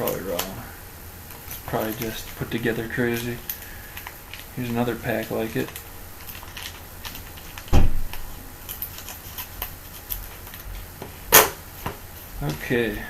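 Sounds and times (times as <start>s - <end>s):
foil pack crinkling: 0.0s - 13.0s
foil rustle: 0.0s - 13.0s.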